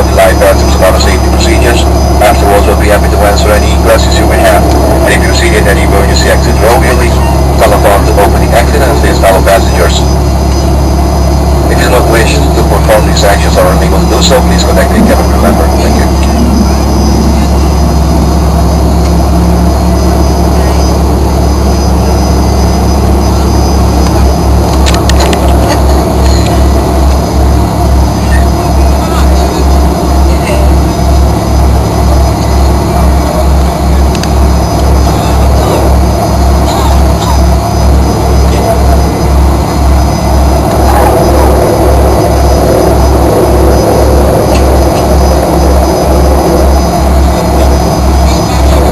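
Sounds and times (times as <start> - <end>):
jet engines in cabin: 0.0 - 48.9
pulsing deep rumble: 0.0 - 48.9.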